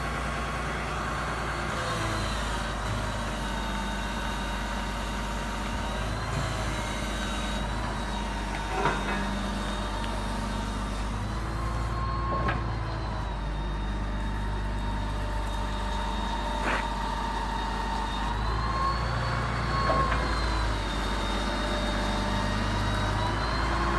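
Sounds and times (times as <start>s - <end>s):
diesel engine running at low speed: 0.0s - 23.9s.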